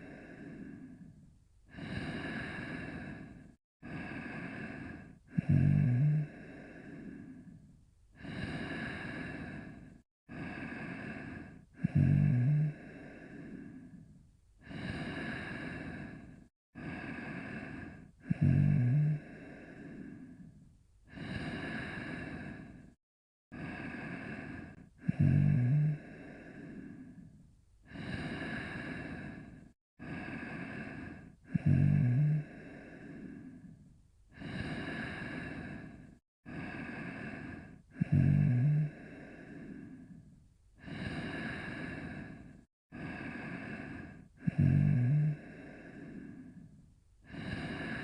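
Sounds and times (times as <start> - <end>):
breathy breaths: 0.0 - 48.0
cartoon snoring: 1.7 - 7.6, 8.2 - 20.5, 21.1 - 22.9, 23.5 - 27.3, 27.9 - 40.2, 40.8 - 48.0.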